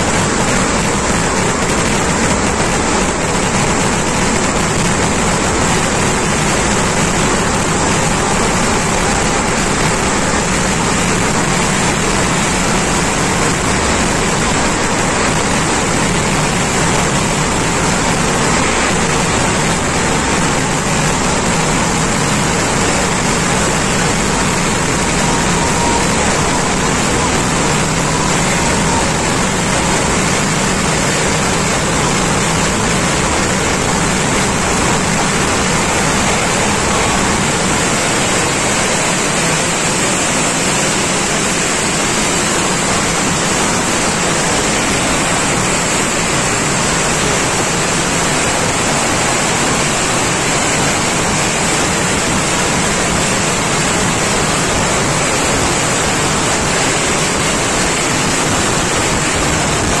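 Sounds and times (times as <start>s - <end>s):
dense fireworks barrage: 0.0s - 60.0s.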